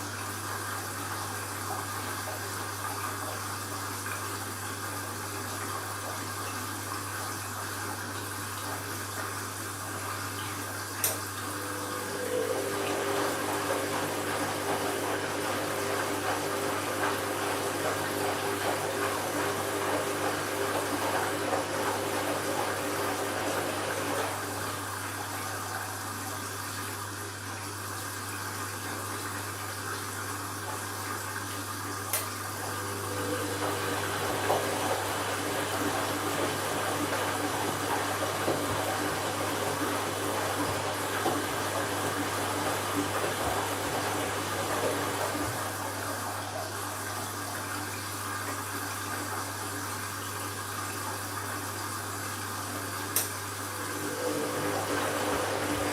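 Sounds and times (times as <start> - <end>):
washing machine low hum: 0.0 - 55.9
washing machine water running: 0.0 - 55.9.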